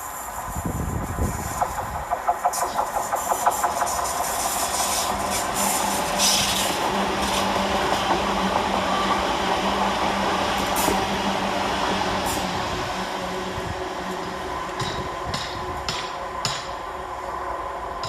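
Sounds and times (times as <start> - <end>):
electric train running on rails: 0.0 - 18.0.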